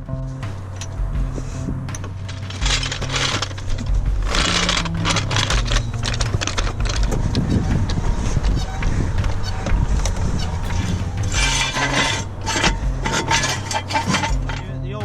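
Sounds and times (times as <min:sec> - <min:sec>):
background music with bass line: 0:00.0 - 0:15.0
metallic rattling: 0:00.0 - 0:15.0.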